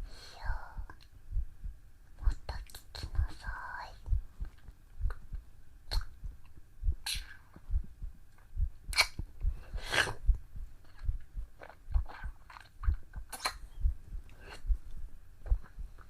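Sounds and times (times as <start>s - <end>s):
heartbeat thumps: 0.5s - 16.0s.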